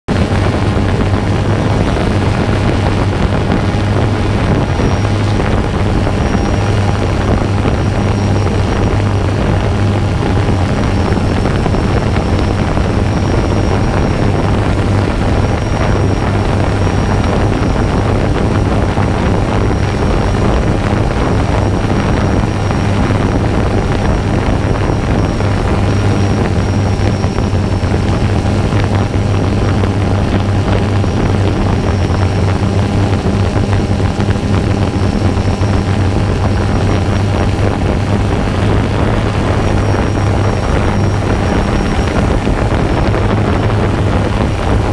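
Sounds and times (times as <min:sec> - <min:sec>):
drone propellers buzzing: 0:00.0 - 0:44.9.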